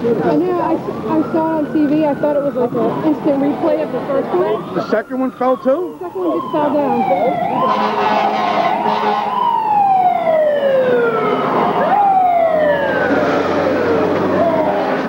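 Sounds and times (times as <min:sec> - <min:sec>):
fire engine siren wailing: 0:00.0 - 0:15.0.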